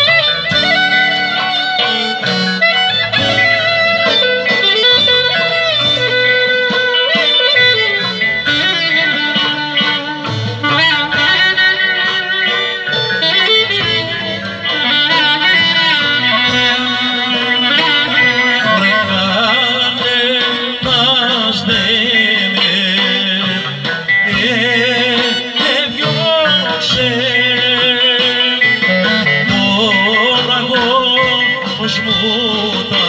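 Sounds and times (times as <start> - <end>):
clarinet melody: 0.0 - 33.0
drums: 0.0 - 33.0
electric guitar: 0.0 - 33.0.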